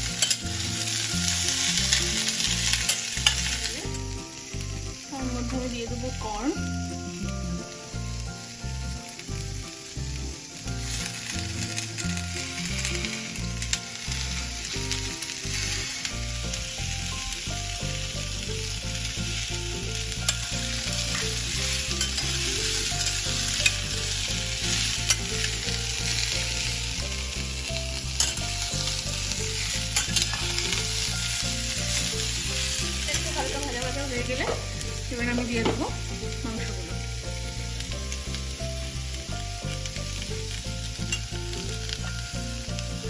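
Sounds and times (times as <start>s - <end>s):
background music: 0.0s - 43.0s
vegetables sizzling in oil: 0.0s - 43.0s.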